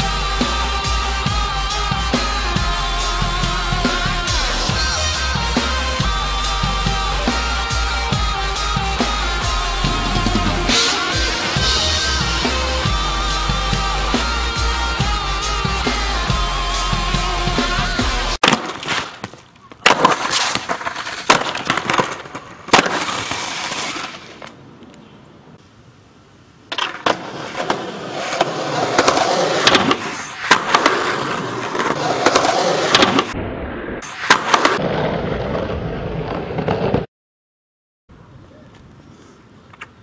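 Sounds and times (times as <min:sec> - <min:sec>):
skateboard wheels rolling on pavement: 0:00.0 - 0:25.6, 0:26.6 - 0:37.1.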